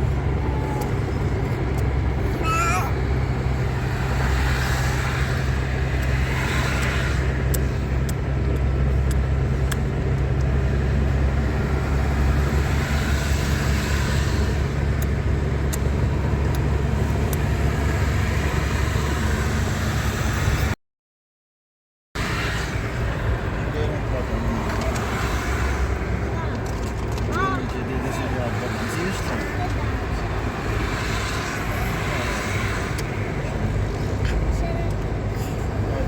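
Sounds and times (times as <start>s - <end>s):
car engine hum: 0.0s - 20.8s, 22.2s - 36.0s.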